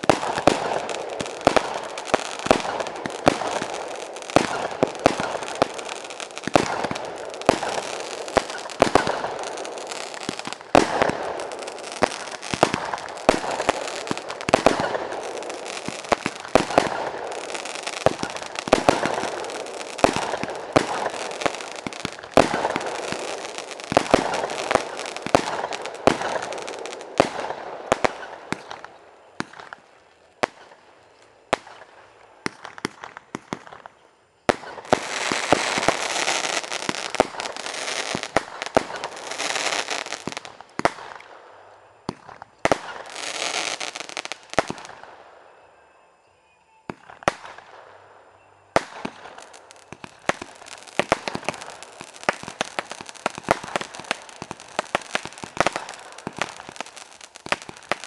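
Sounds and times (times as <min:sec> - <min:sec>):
firework bangs: 0:00.0 - 0:29.8, 0:31.4 - 0:45.6, 0:46.9 - 0:58.0
fireworks crackling: 0:00.0 - 0:45.8, 0:46.8 - 0:58.0.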